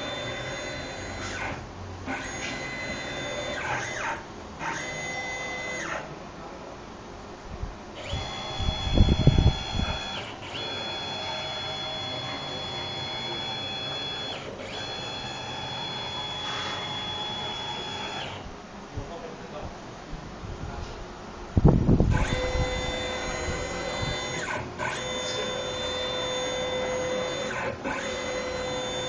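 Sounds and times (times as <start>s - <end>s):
stepper motors whining: 0.0s - 6.1s, 8.0s - 18.5s, 22.1s - 29.0s.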